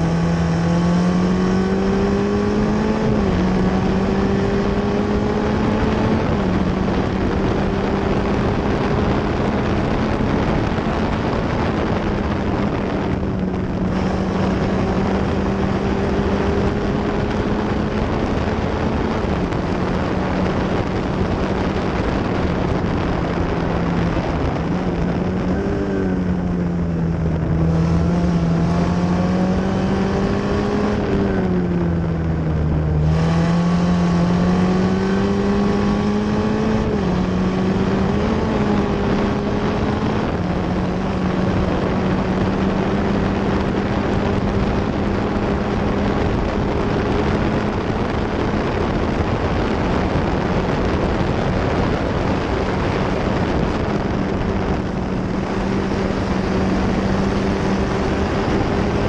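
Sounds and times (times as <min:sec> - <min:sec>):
race car engine running hard: 0:00.0 - 0:59.0
wind rushing over microphone: 0:00.0 - 0:59.0.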